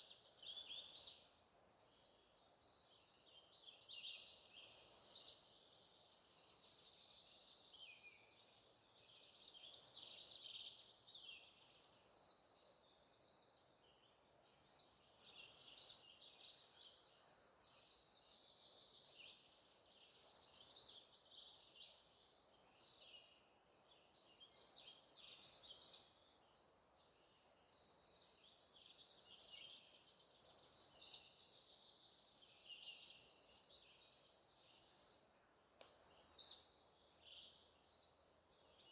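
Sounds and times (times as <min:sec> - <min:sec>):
songbirds singing trills: 0:00.0 - 0:38.9.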